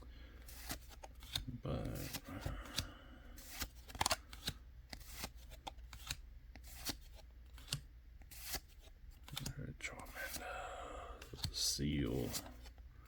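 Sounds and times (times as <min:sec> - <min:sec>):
trading cards flipped by hand: 0:00.4 - 0:10.4, 0:11.2 - 0:12.8.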